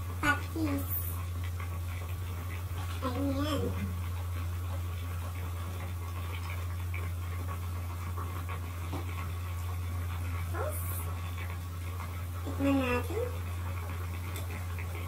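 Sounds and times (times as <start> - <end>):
broth simmering: 0.0 - 15.0
steady low hum: 0.0 - 15.0.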